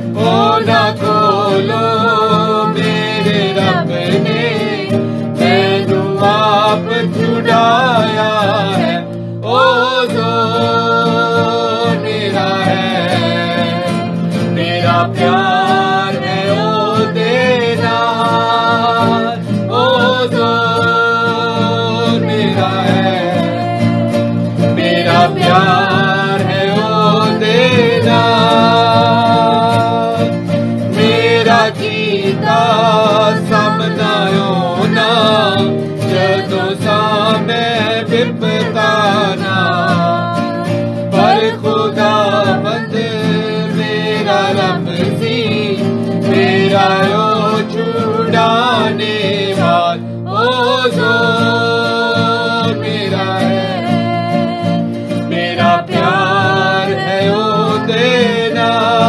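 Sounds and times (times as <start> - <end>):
guitar accompaniment: 0.0 - 59.0
person singing devotional song: 0.0 - 59.0.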